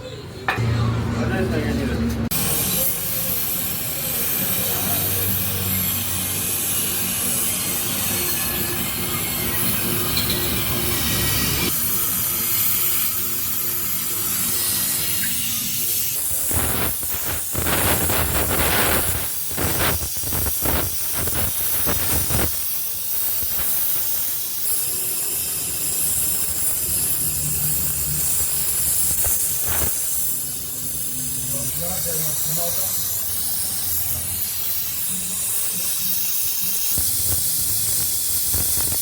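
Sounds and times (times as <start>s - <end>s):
welding crackling: 2.3s - 39.0s
welding hiss: 2.3s - 39.0s.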